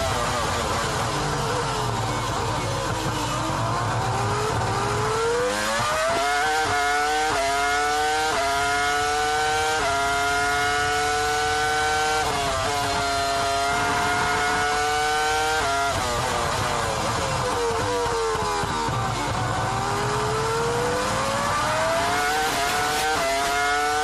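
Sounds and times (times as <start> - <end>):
racing car engine: 0.0 - 24.0.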